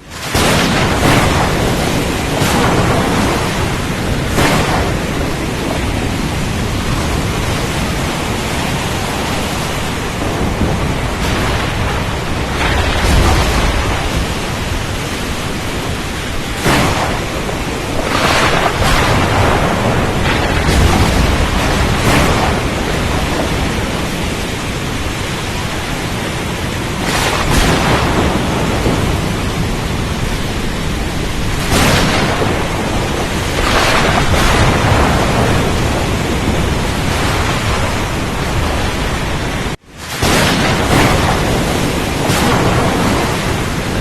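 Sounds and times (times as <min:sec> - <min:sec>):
rain: 0:00.0 - 0:44.0
rough water surging: 0:00.0 - 0:44.0
wind roaring: 0:00.0 - 0:44.0.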